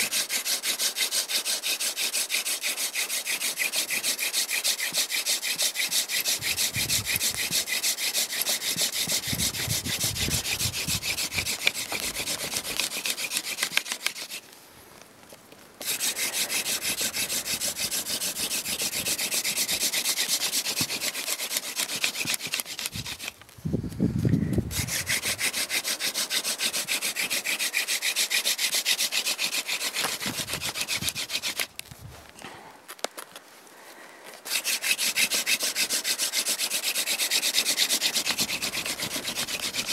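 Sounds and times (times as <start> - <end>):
hand drill spindle grinding on wood: 0.0 - 14.4, 15.8 - 23.5, 24.5 - 31.8, 34.4 - 39.9.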